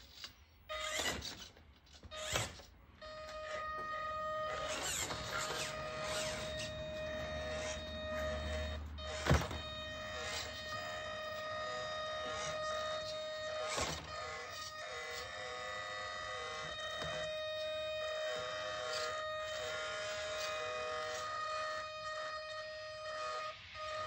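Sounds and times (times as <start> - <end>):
electric motor and gears whining: 0.0 - 24.0.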